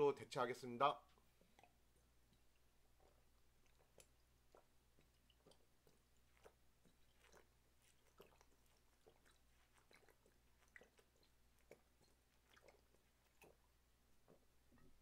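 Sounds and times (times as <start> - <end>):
person gulping a drink: 1.2 - 15.0.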